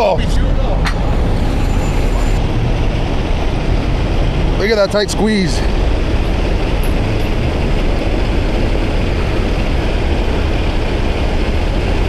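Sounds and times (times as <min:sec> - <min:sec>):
loud vehicle rumble: 0:00.0 - 0:12.0.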